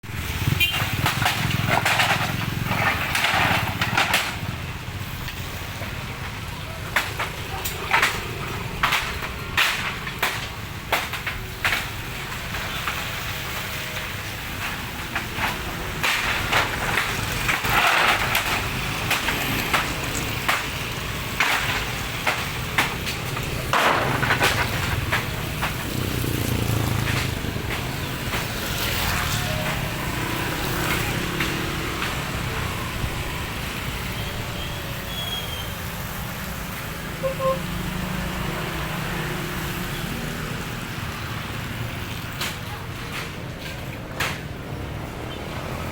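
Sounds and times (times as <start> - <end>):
market stalls rattling and clattering: 0.0 - 45.9.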